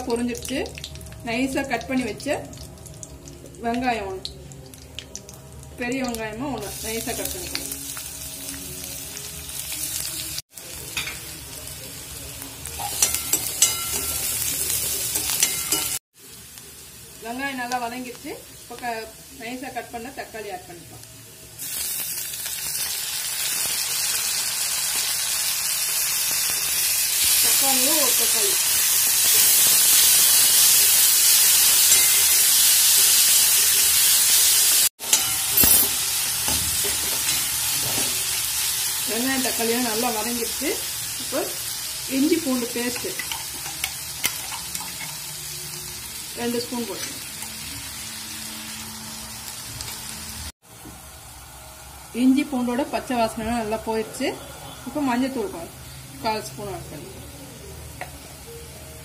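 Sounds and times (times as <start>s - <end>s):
onions sizzling in oil: 0.0s - 59.0s.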